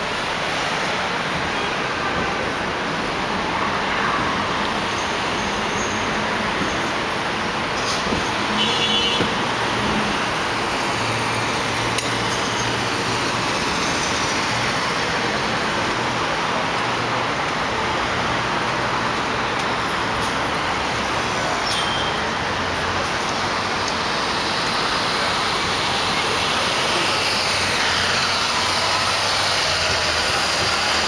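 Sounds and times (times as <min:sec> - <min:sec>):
city street traffic: 0:00.0 - 0:31.0.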